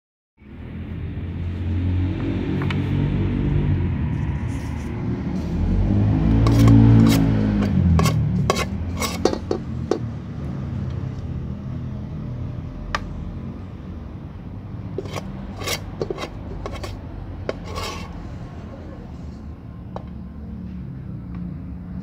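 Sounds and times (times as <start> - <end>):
low traffic rumble: 0.4 - 22.0.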